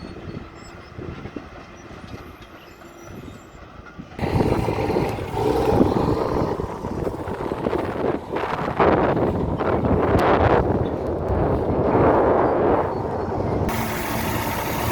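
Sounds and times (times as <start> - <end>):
heavy construction vehicle rumble: 0.0 - 14.9.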